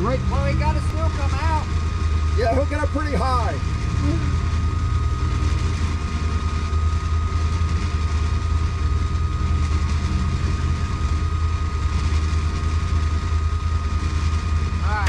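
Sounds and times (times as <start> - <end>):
thin high whine: 0.0 - 15.0
utility vehicle engine droning: 0.0 - 15.0.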